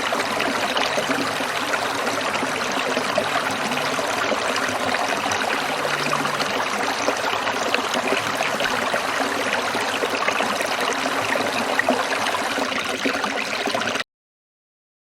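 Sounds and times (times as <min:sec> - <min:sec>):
stream trickling and splashing: 0:00.0 - 0:14.0.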